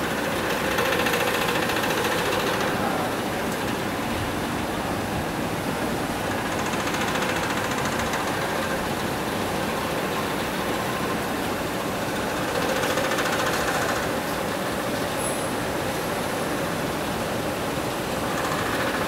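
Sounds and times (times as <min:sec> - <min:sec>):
printing machine running: 0:00.0 - 0:19.0.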